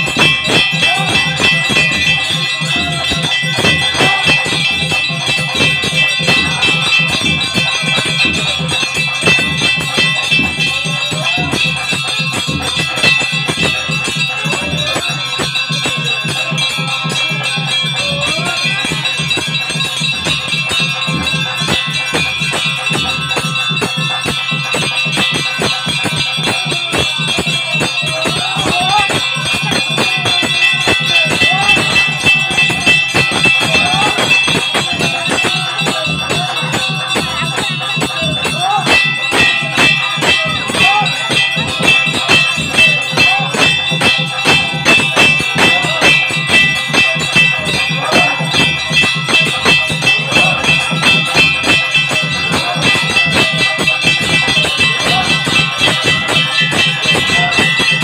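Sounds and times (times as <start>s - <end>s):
music: 0.0s - 58.0s
temple bells ringing rapidly: 0.0s - 58.0s.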